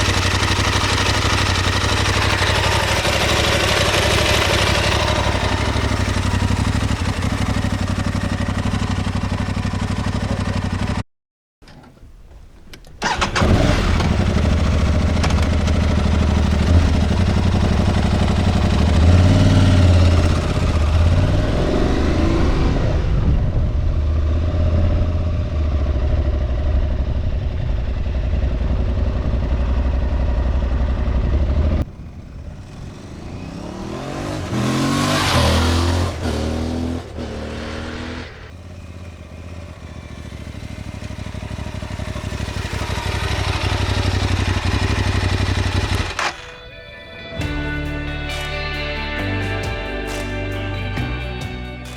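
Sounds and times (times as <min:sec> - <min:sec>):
motorcycle engine revving: 0:00.0 - 0:11.0, 0:13.0 - 0:46.6.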